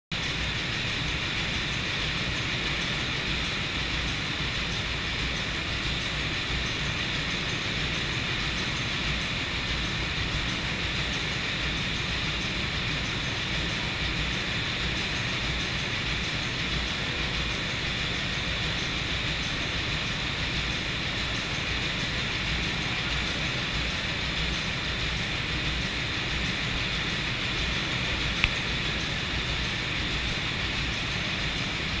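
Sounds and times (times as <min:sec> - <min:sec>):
diesel generator engine running: 0:00.2 - 0:32.0.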